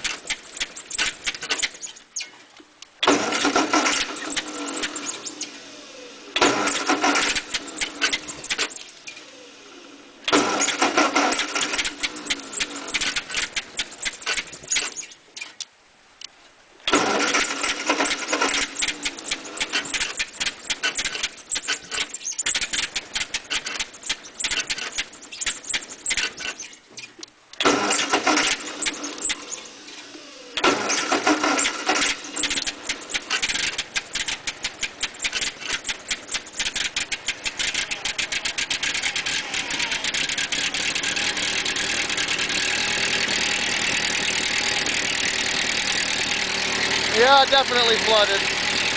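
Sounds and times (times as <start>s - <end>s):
tractor engine cranking: 0.0s - 48.9s.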